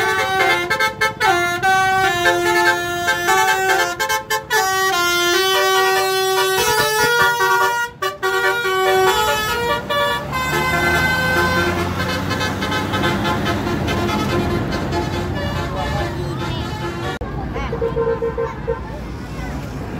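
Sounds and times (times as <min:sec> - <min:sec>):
multi-tone air horn tune: 0:00.0 - 0:17.2.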